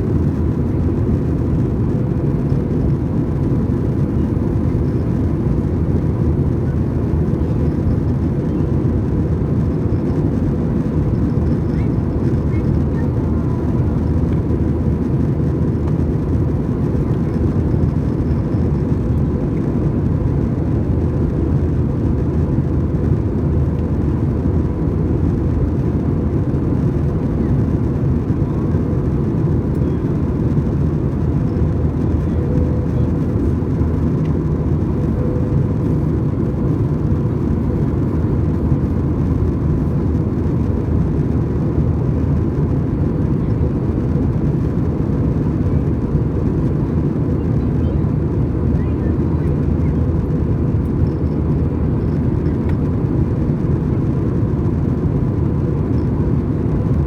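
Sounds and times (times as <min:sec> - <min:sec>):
airplane cabin engine rumble: 0:00.0 - 0:57.0
faint steady hum: 0:00.0 - 0:57.0.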